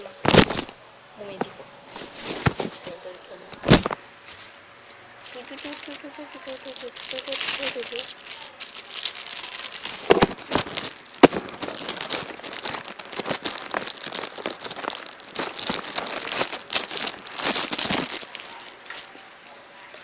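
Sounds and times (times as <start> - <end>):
plastic packaging crinkling: 0.2 - 0.8, 1.9 - 19.6.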